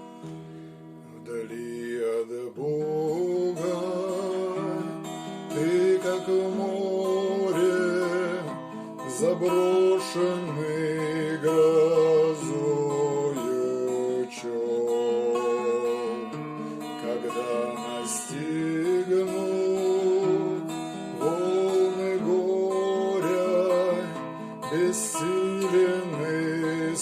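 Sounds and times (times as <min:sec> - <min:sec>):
acoustic guitar: 0:00.0 - 0:27.0
person singing a hymn: 0:01.1 - 0:27.0.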